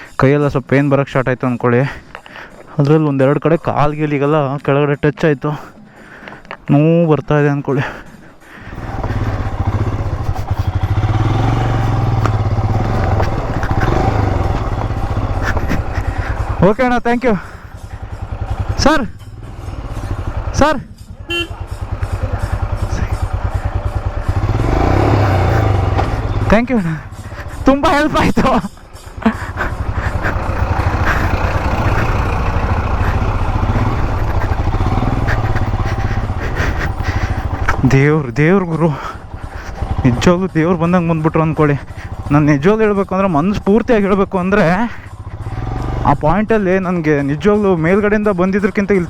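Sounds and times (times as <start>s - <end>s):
motorcycle engine running: 8.1s - 49.0s.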